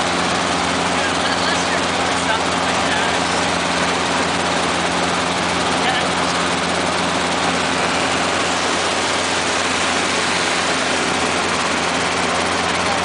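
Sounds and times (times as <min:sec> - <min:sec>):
helicopter engine and rotors drone: 0:00.0 - 0:13.0.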